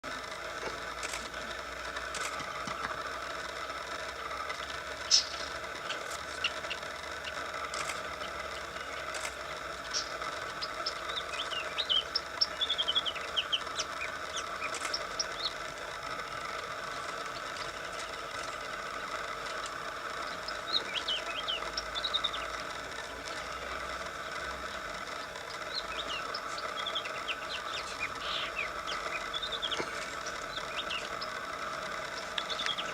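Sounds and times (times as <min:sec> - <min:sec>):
steady background hum: 0:00.0 - 0:32.9
birds chirping: 0:03.8 - 0:32.9.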